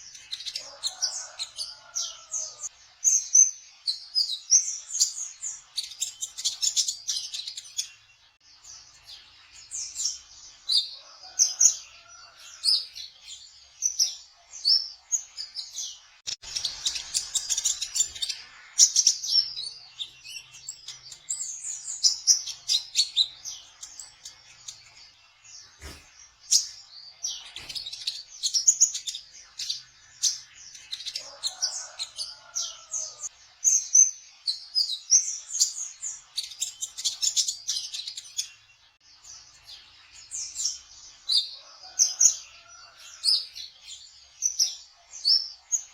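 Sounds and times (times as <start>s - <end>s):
bird twittering song: 0.0s - 45.9s.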